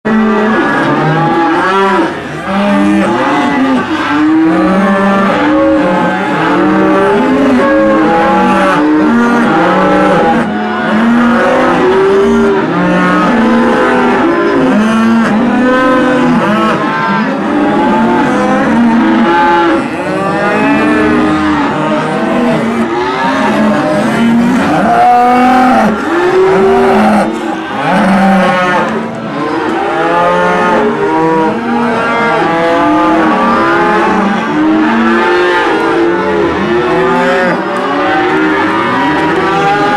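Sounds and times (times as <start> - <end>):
cattle mooing: 0.1 - 39.9.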